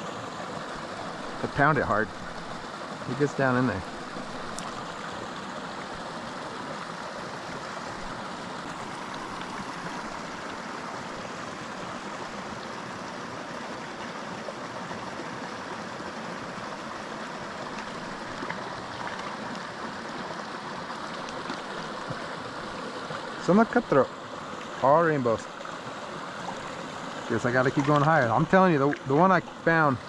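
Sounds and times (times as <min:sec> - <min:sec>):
creek splashing over rocks: 0:00.0 - 0:30.0.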